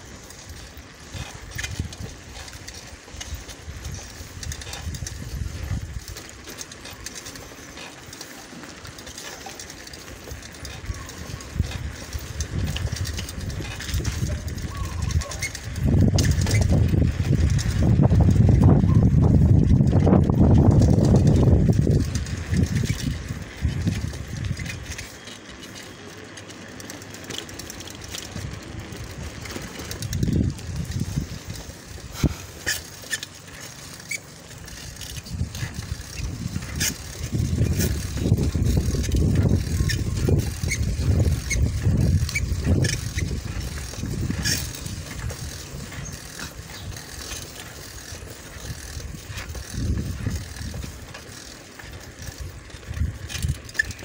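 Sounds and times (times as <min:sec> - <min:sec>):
wind buffeting microphone: 0:00.0 - 0:09.0, 0:10.0 - 0:25.4, 0:27.5 - 0:33.7, 0:34.5 - 0:54.0
small clicks and rattles: 0:00.0 - 0:54.0.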